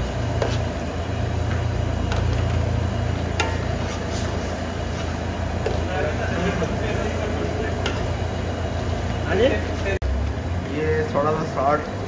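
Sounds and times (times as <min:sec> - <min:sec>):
low rumble under wok: 0:00.0 - 0:12.0.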